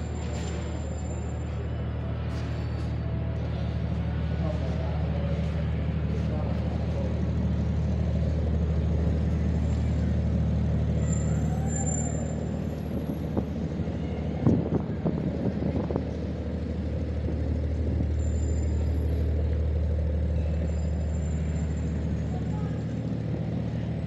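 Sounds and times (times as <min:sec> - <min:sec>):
low rumble of road traffic: 0:00.0 - 0:24.0.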